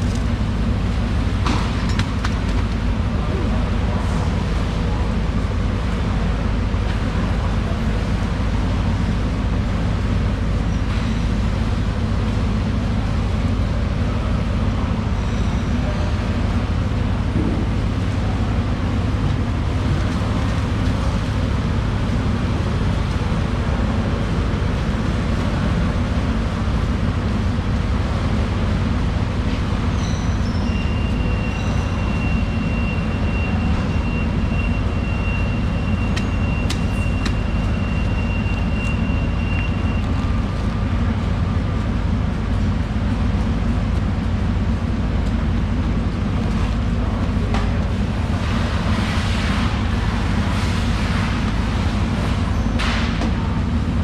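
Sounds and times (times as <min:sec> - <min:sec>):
low mechanical rumble: 0:00.0 - 0:54.0.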